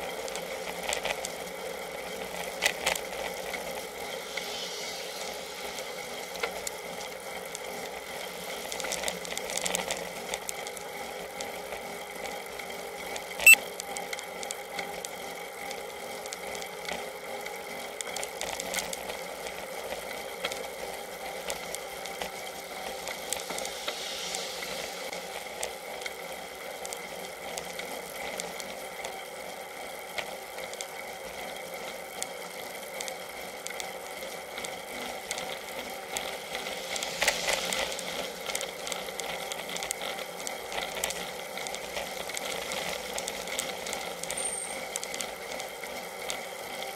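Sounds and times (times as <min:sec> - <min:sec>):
bicycle rattle and road vibration: 0:00.0 - 0:46.9.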